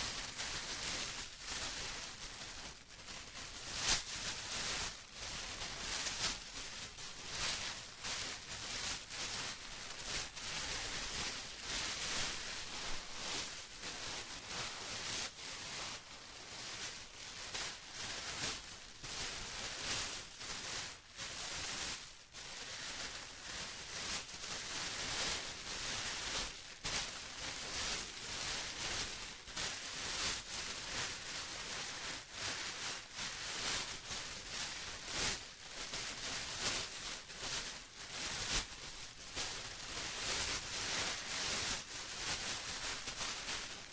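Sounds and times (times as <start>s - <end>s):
plastic crumpling: 0.0s - 43.9s.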